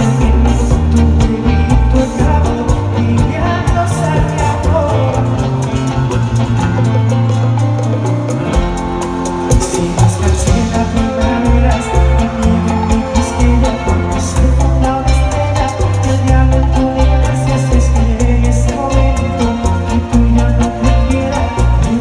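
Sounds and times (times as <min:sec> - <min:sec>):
vocals: 0:00.0 - 0:07.7, 0:08.5 - 0:22.0
live band playing: 0:00.0 - 0:22.0.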